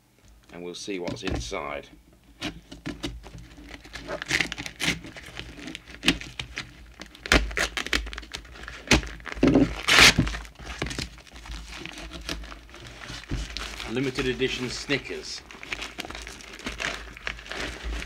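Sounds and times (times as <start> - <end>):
packaging crinkling and ripping: 2.4 - 18.0.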